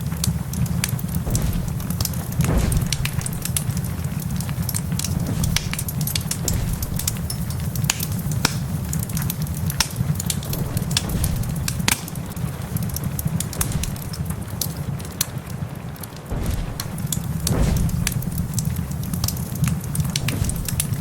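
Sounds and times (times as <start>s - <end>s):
wood fire crackling and popping: 0.0s - 21.0s
low rumble: 1.1s - 8.5s, 10.2s - 15.1s, 16.2s - 21.0s.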